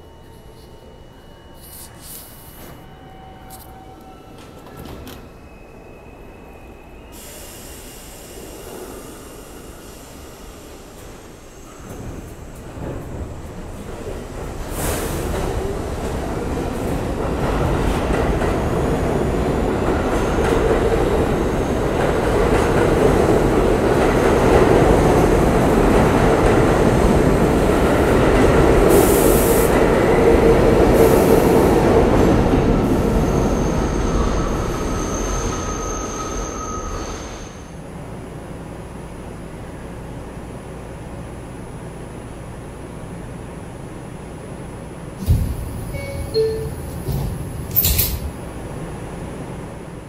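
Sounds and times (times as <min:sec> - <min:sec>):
subway train passing: 0:00.0 - 0:50.0.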